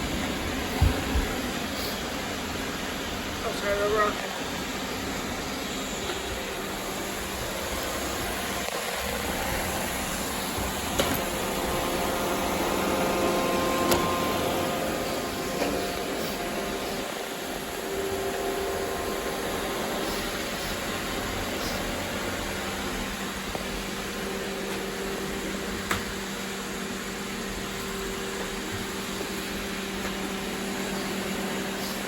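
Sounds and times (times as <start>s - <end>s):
robot vacuum whirring: 4.4s - 32.0s.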